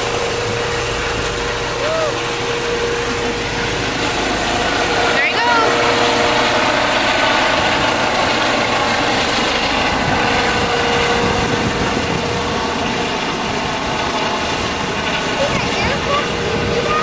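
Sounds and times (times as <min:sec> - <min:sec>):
helicopter taking off: 0:00.0 - 0:17.0.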